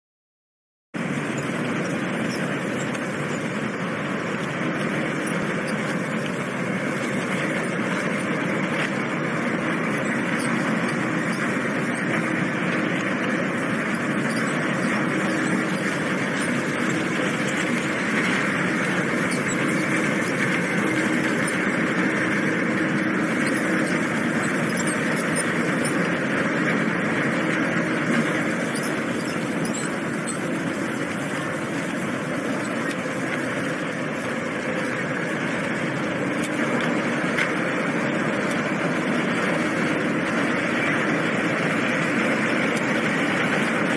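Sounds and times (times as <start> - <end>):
ship engines droning: 1.0 - 43.9.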